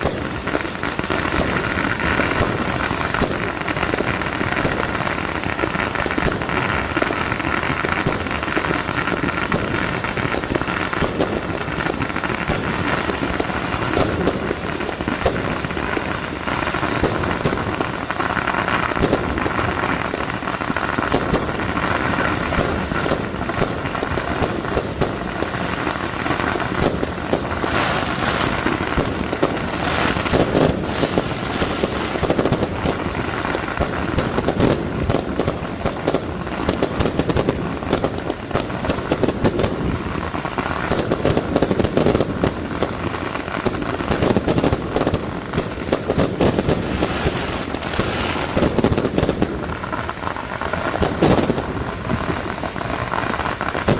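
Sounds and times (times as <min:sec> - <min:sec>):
fireworks cracking and popping: 0:00.0 - 0:53.9.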